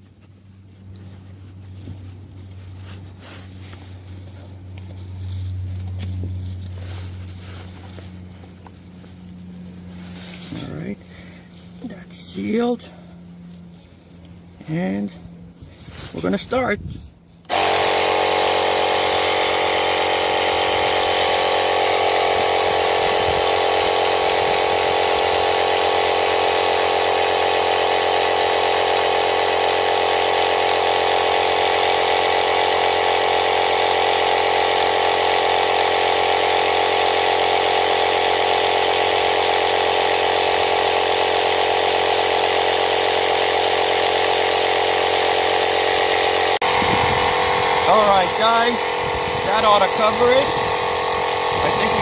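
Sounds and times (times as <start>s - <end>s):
air compressor running: 0.0s - 52.0s.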